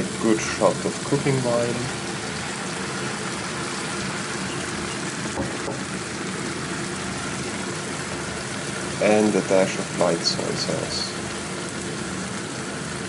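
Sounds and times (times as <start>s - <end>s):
food sizzling in a frying pan: 0.1s - 10.0s, 10.8s - 13.0s.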